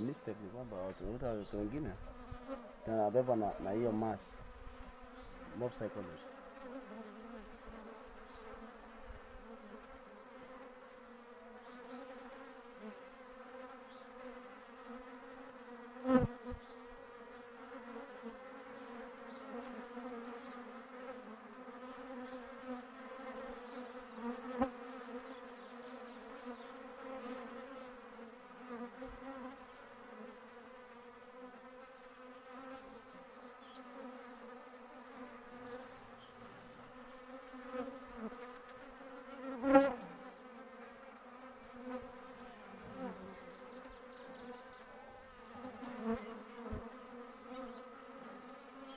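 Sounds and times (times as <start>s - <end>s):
bees buzzing: 0.0s - 48.9s.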